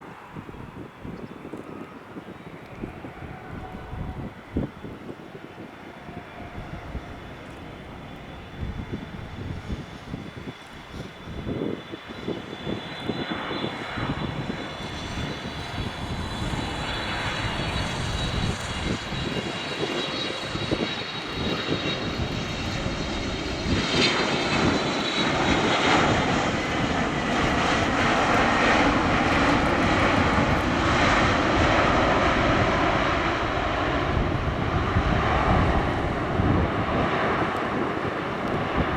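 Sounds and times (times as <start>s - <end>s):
jet engine whine and rush: 0.0s - 38.9s.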